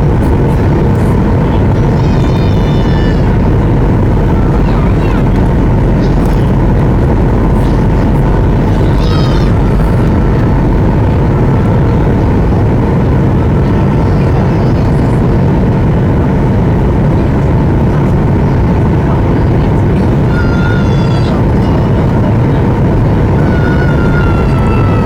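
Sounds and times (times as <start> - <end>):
jet engines droning: 0.0 - 25.0
rushing airflow: 0.0 - 25.0.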